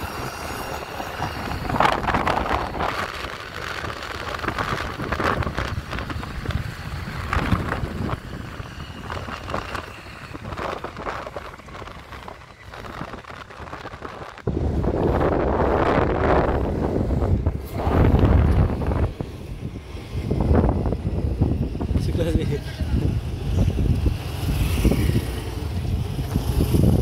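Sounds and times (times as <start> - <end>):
steady low rumble: 0.0 - 27.0
wind buffeting microphone: 0.0 - 27.0.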